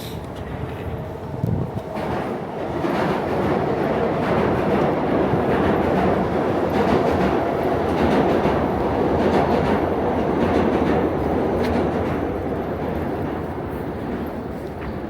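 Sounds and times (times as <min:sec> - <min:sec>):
rumbling city noise: 0:00.0 - 0:15.0.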